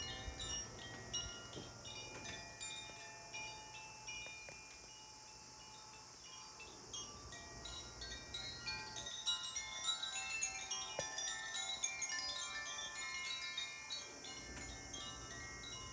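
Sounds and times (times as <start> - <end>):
wind chimes ringing: 0.0 - 15.9.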